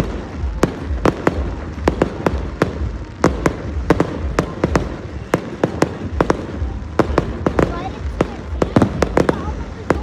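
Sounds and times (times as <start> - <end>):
continuous low rumble: 0.0 - 10.0.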